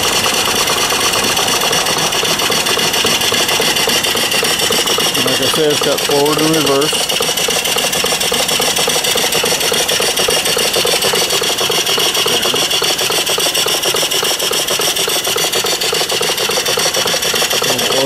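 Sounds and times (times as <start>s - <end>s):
steam engine exhaust chuffing: 0.0s - 18.0s.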